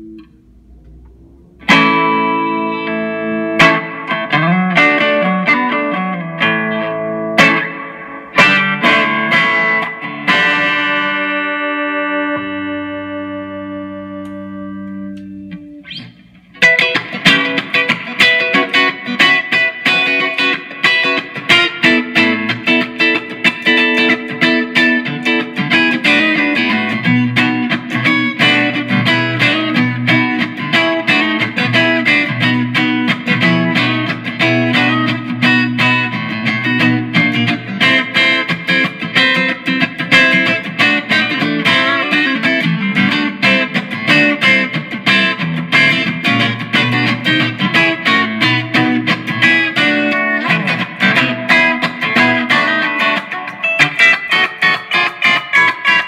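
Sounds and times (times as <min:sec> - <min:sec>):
electric guitar through amplifier: 0:00.0 - 0:56.0.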